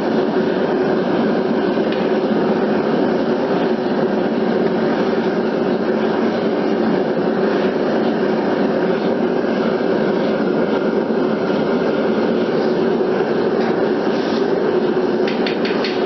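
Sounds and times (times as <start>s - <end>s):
furnace burner roaring: 0.0s - 16.0s.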